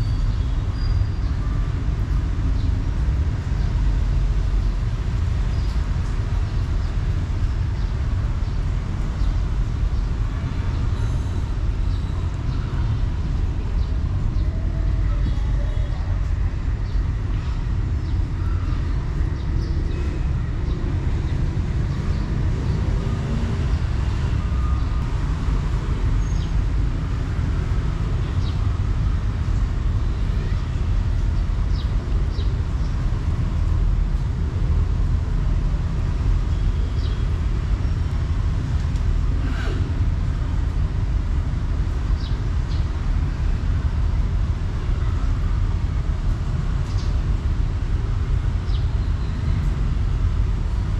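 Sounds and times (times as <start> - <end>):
low background rumble: 0.0 - 50.9.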